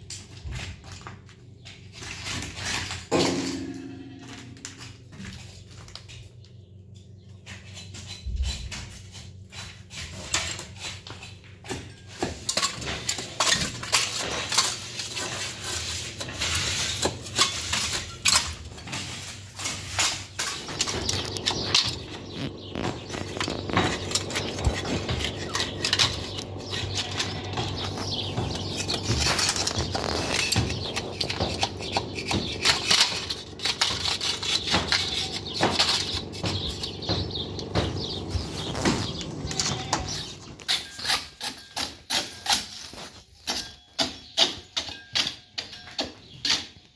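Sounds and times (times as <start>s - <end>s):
metal tools scraping plaster: 7.4s - 46.9s.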